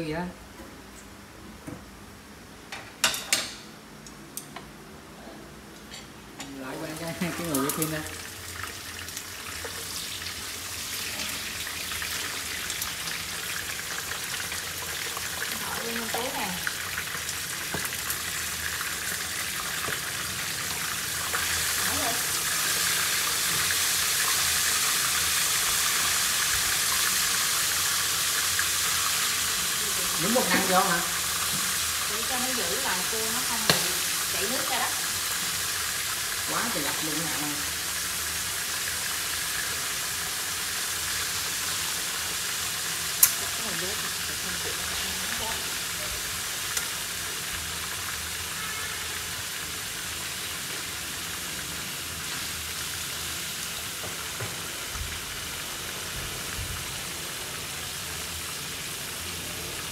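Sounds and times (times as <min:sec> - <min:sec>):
crab frying in hot oil: 0:05.9 - 0:59.9.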